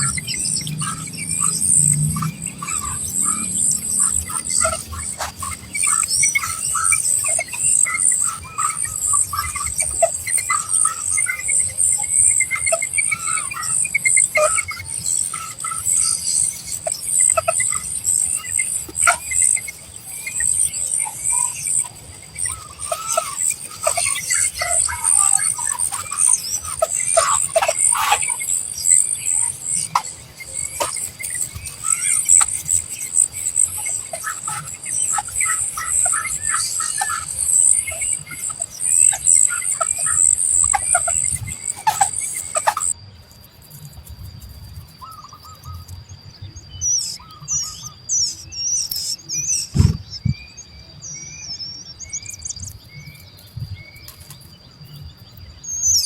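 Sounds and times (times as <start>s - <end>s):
young birds chirping: 0.0s - 43.0s, 47.0s - 50.7s, 51.4s - 56.0s.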